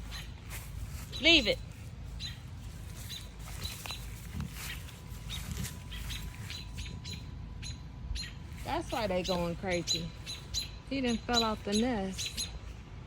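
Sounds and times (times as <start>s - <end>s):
birds alarm-calling with sharp chirps: 0.0s - 13.0s.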